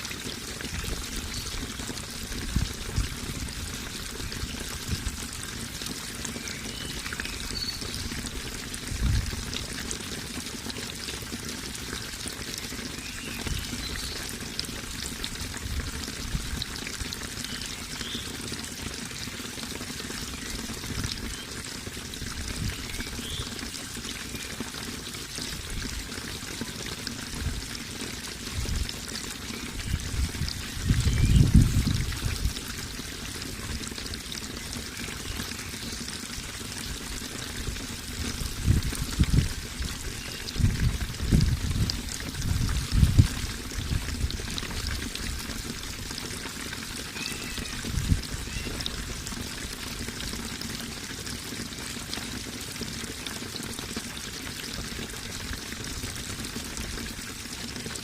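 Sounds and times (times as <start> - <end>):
water gurgles and splashes: 0.0 - 58.0
water running and trickling: 0.0 - 58.0.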